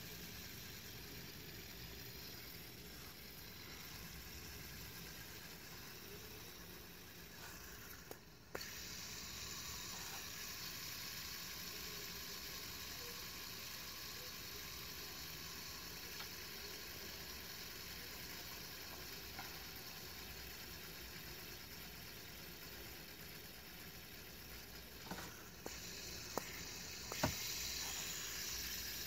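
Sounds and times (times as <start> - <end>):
fidget spinner whirring: 0.0 - 29.0.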